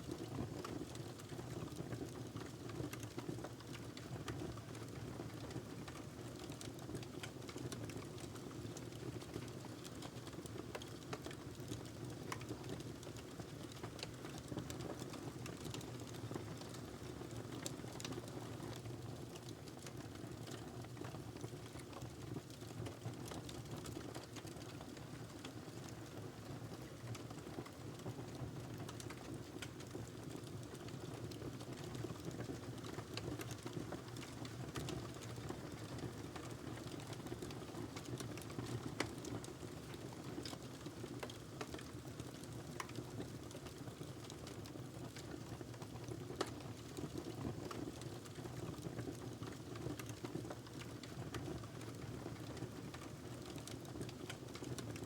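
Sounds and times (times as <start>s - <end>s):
fire crackles and pops: 0.1s - 55.0s.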